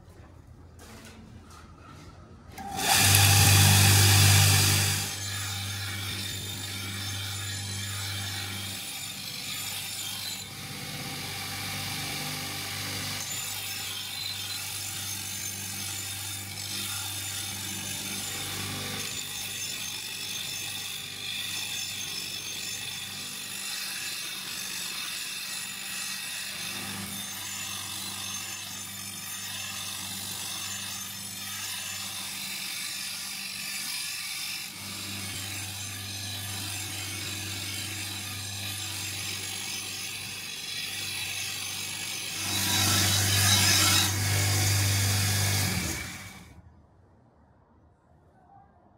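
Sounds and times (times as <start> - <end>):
metal scraping and rasping: 0.0 - 10.8, 13.0 - 46.5.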